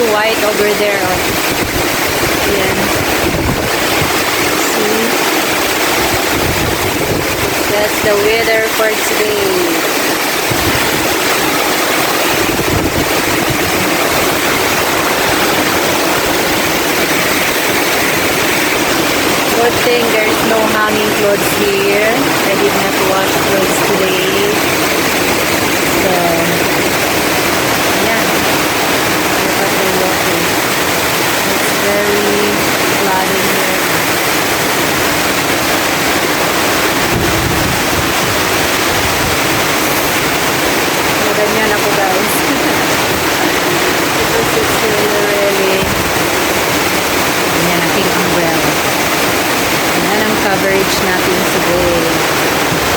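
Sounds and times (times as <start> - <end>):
heavy rain pouring: 0.0 - 52.9
wind buffeting microphone: 0.0 - 52.9.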